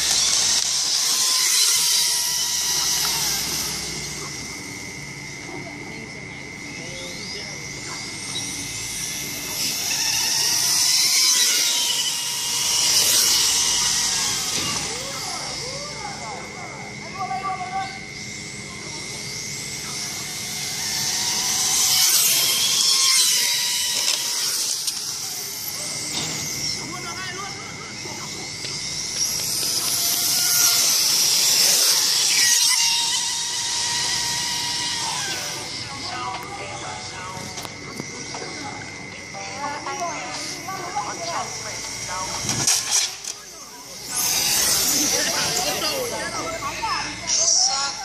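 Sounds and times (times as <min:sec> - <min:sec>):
rc car motor whine: 0:00.0 - 0:48.0.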